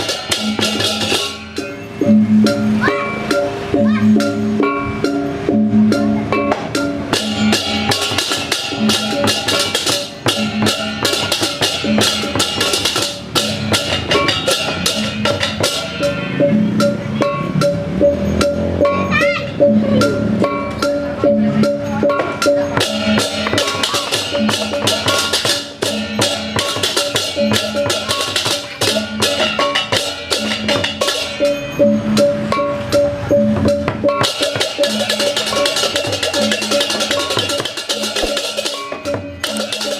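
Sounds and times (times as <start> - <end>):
drums: 0.0 - 39.9
ringing gong and metallophone: 0.0 - 39.9
small clashing cymbals: 0.0 - 39.9.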